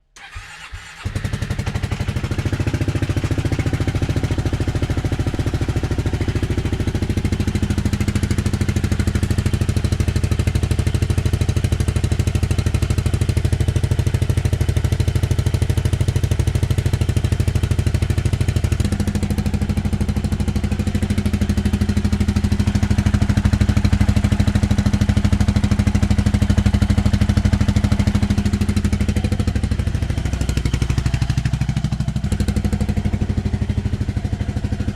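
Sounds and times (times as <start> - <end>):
scooter engine idling: 0.2 - 34.9.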